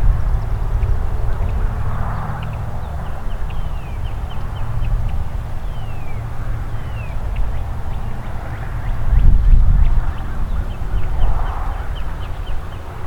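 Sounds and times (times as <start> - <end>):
songbirds chirping: 0.0 - 13.0
wind buffeting microphone: 0.0 - 13.0.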